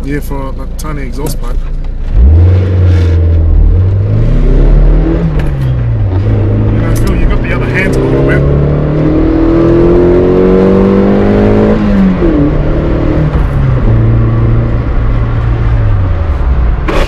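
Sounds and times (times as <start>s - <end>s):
car engine revving from inside: 2.1s - 16.0s.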